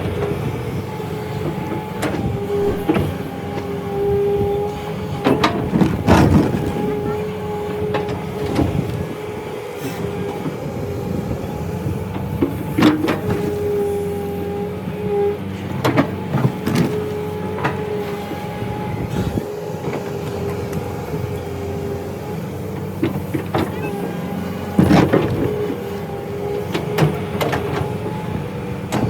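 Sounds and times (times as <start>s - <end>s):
excavator engine running with whine: 0.0s - 29.0s.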